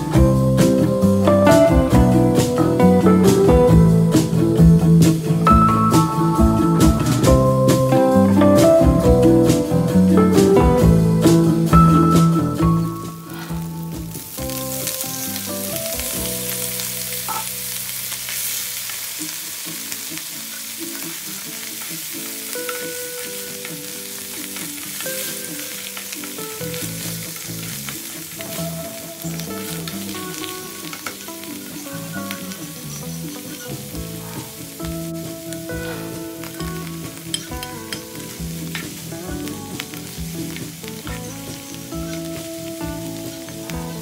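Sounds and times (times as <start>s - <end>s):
faint background music: 0.0s - 44.0s
onions sizzling in a pan: 0.0s - 44.0s.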